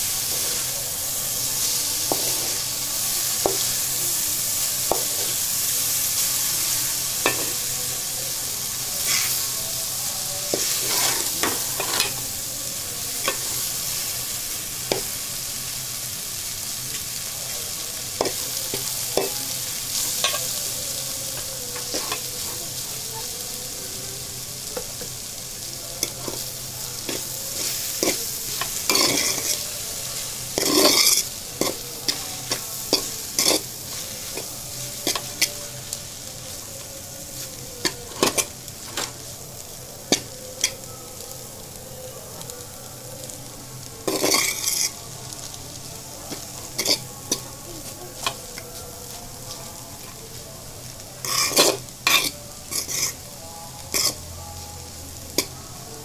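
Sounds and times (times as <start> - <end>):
noodles sizzling in a pot: 0.0 - 56.0.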